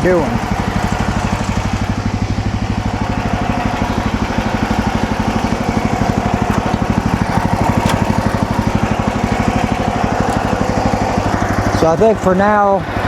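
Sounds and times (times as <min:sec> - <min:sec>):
sawmill engine running: 0:00.0 - 0:13.0.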